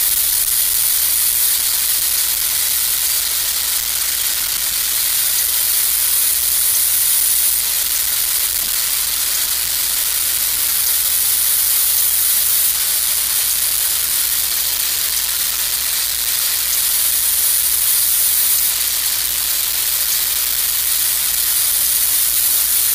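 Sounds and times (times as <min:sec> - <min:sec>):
steady high hiss: 0:00.0 - 0:22.9.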